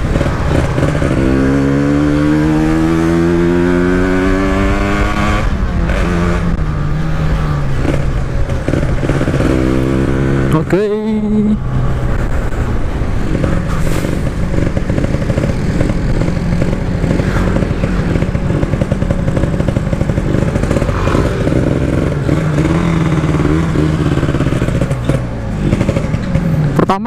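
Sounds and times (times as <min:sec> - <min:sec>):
motorcycle engine running: 0:00.0 - 0:13.7, 0:14.3 - 0:27.0.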